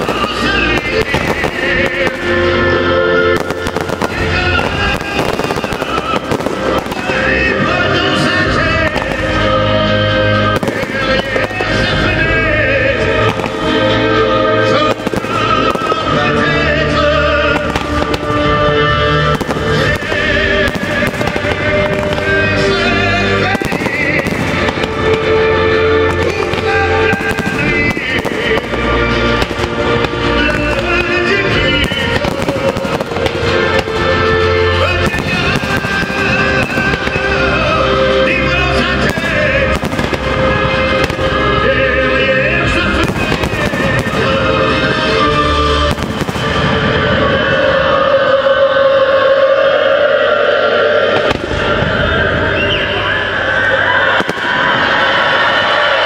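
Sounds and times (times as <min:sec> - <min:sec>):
fireworks bursting and crackling: 0:00.0 - 0:47.6, 0:51.1 - 0:56.0
music playing: 0:00.0 - 0:56.0.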